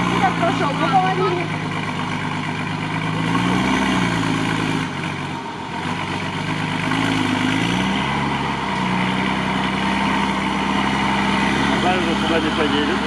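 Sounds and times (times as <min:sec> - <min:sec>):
truck engine revving in mud: 0:00.0 - 0:13.0.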